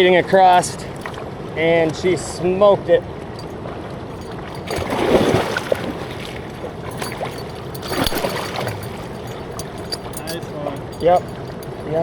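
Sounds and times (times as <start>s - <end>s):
river water splashing: 0.0s - 12.0s
steady rushing water: 0.0s - 12.0s.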